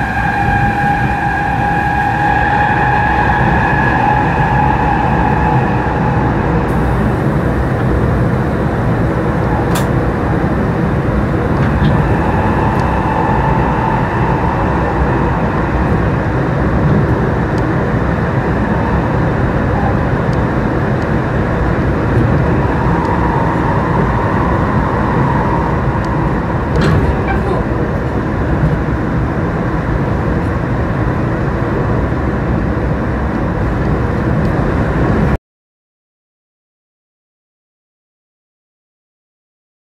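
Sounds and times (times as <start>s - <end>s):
train wheels rumbling on rail: 0.0s - 35.4s.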